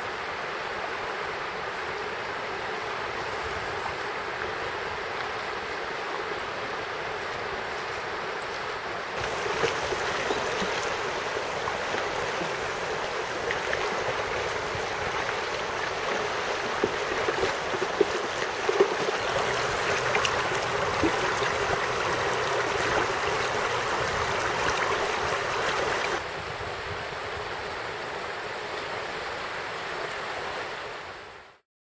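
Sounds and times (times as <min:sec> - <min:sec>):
river rushing over stones: 0:00.0 - 0:31.5.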